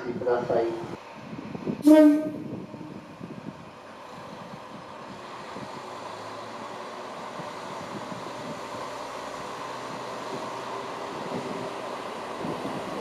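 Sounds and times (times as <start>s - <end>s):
diesel railcar pulling away: 0.0s - 13.0s.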